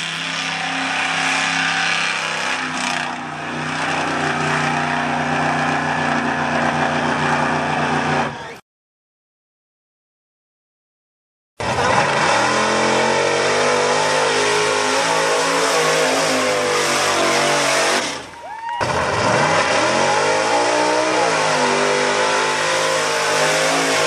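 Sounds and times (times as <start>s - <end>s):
truck engine revving hard: 0.0s - 8.5s, 11.6s - 24.0s.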